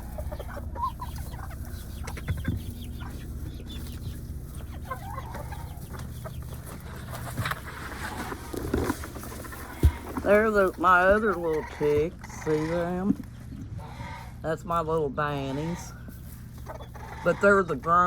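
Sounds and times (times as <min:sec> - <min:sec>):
chickens clucking: 0:00.0 - 0:18.0
steady low hum: 0:00.0 - 0:18.0.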